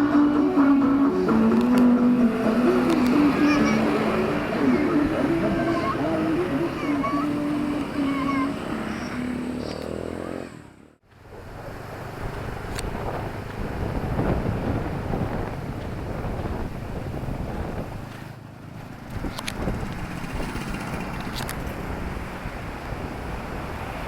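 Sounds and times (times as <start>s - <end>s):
passing traffic rush: 0.0s - 24.0s
vehicle engine humming: 0.0s - 24.0s.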